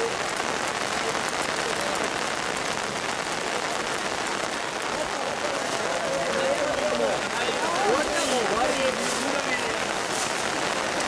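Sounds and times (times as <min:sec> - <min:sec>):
heavy rain on umbrellas: 0:00.0 - 0:11.0.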